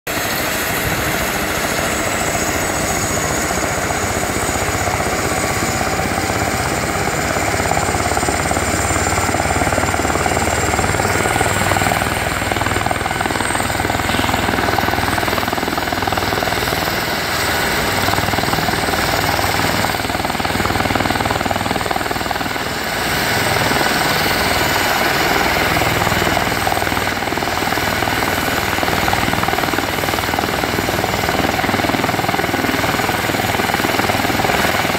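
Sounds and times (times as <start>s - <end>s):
helicopter turbines and rotors running: 0.1s - 34.9s.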